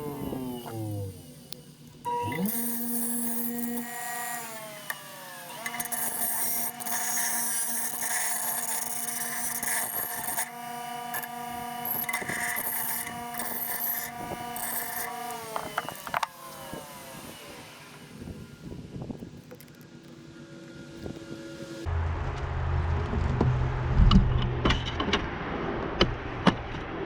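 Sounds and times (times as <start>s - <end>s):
electric grinder grinding metal: 0.0s - 21.9s.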